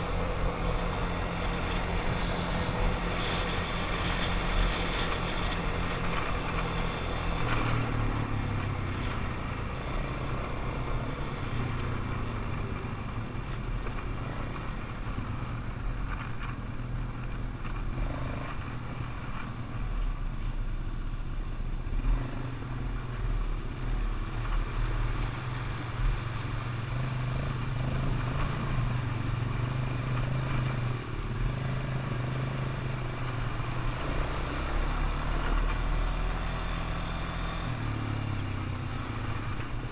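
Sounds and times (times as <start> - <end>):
atv engine running: 0.0 - 20.6, 21.2 - 39.9.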